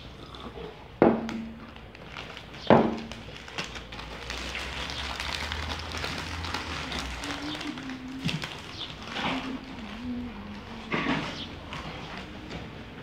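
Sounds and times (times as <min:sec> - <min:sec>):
foil crisp bags crinkling: 0:01.3 - 0:13.0.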